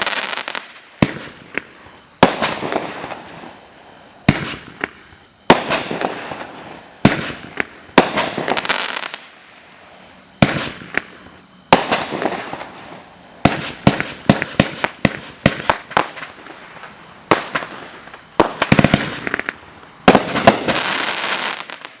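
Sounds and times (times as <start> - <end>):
fireworks bangs with crackle: 0.0 - 9.4, 10.4 - 22.0.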